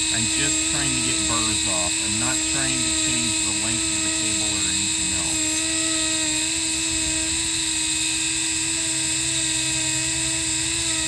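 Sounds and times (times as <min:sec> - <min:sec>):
rotary tool grinding metal: 0:00.0 - 0:11.0.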